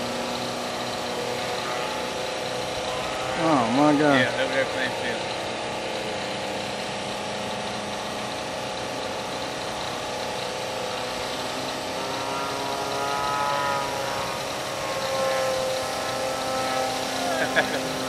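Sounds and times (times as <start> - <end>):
model airplane engine: 0.0 - 18.0.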